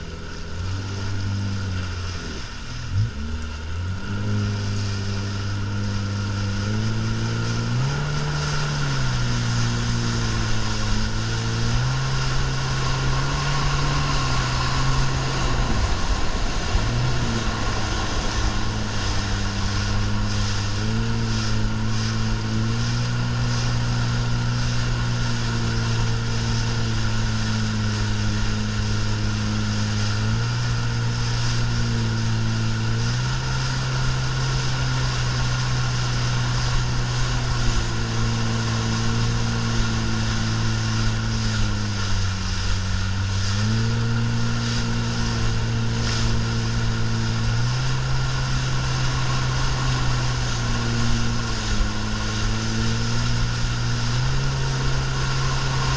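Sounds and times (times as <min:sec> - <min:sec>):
boat engine droning: 0:00.0 - 0:55.9
water rushing past hull: 0:00.0 - 0:55.9.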